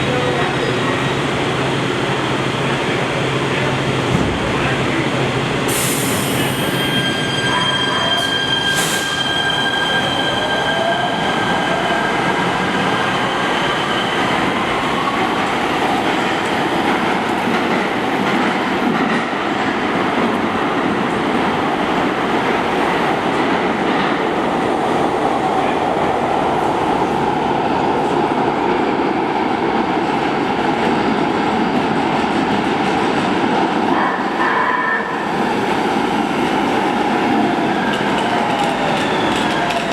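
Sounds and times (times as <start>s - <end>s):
train wheels rumbling on rails: 0.0s - 34.5s, 35.2s - 39.9s.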